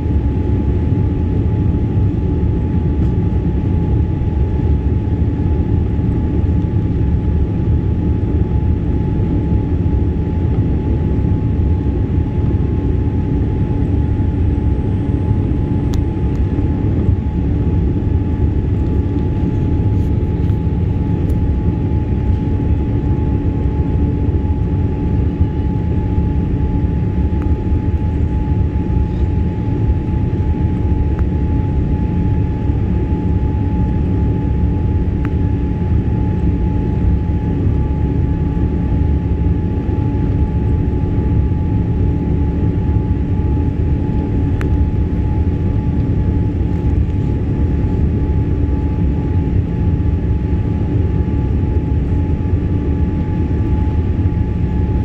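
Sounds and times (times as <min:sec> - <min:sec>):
constant cabin hum: 0:00.0 - 0:55.0
jet engines rumbling: 0:00.0 - 0:55.0.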